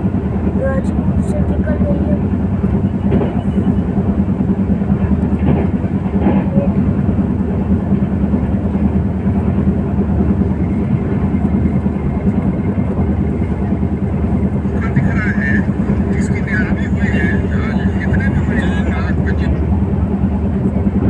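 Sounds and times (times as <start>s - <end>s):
moving train rumble: 0.0s - 21.0s.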